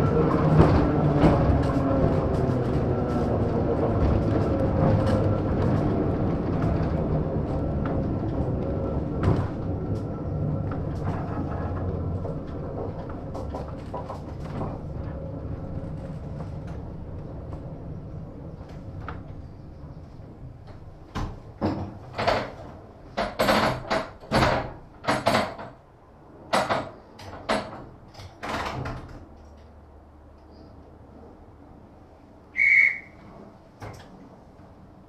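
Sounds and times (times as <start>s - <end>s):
tram running rumble: 0.0s - 35.0s.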